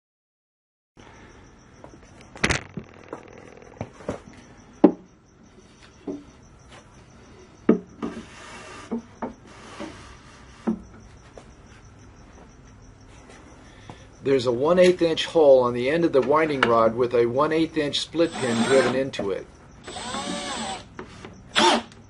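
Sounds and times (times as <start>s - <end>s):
crickets chirping: 1.0s - 22.0s.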